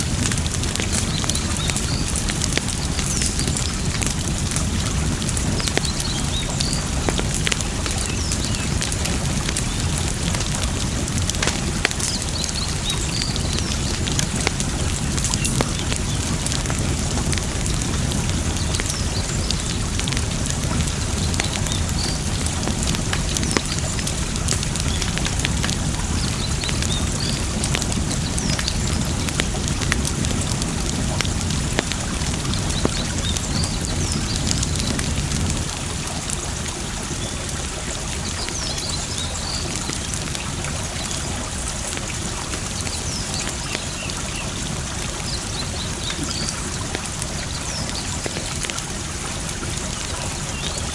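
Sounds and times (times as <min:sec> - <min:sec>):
running water rushing: 0:00.0 - 0:50.9
wood fire crackling: 0:00.0 - 0:50.9.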